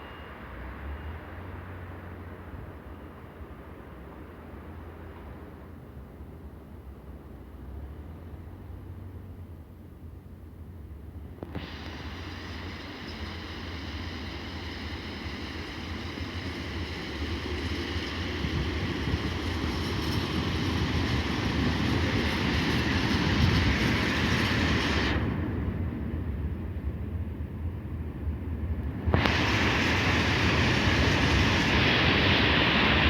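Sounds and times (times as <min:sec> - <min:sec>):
passenger train passing: 0:00.0 - 0:33.0.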